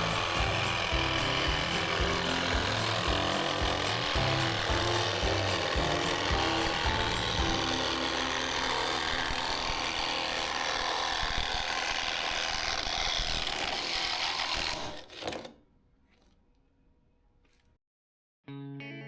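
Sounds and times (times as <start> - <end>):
power saw cutting: 0.0 - 15.6.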